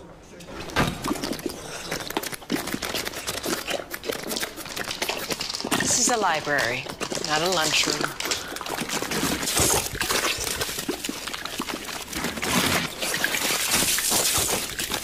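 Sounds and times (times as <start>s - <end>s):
liquid gushing and splashing: 0.8s - 15.0s.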